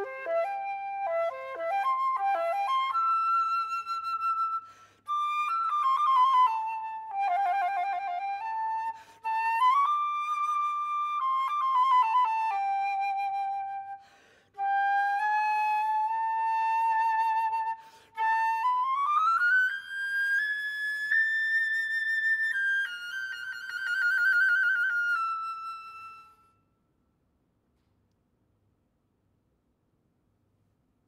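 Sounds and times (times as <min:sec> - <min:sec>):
solo flute melody: 0:00.0 - 0:26.8.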